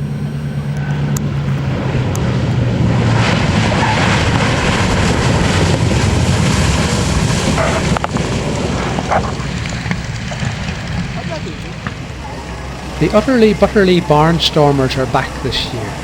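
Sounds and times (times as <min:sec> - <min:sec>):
aircraft radial engines flying past: 0:00.0 - 0:16.0.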